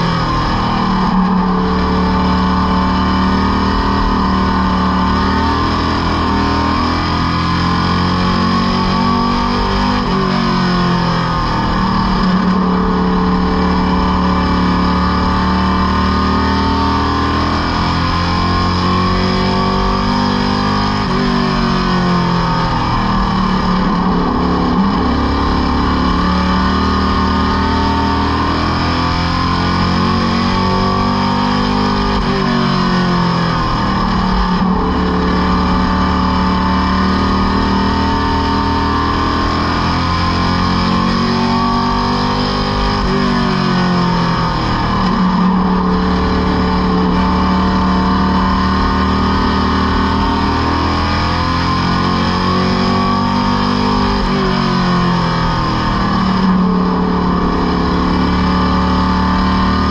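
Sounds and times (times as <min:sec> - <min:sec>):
race car engine: 0:00.0 - 0:59.9.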